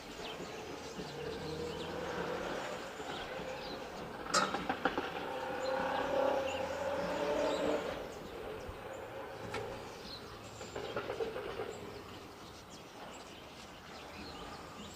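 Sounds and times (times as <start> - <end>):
distant vehicle drone: 0.0 - 14.9.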